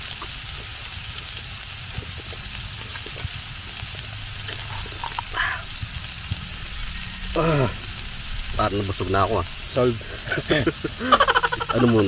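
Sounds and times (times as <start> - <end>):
beef sizzling on a grill: 0.0 - 12.0.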